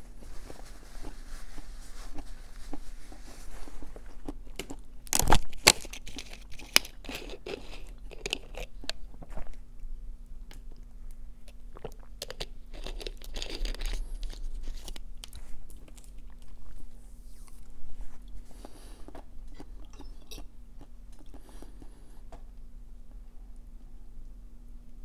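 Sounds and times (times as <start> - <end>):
faint steady hum: 0.0 - 25.0
chewing with soft crunches: 0.1 - 22.6.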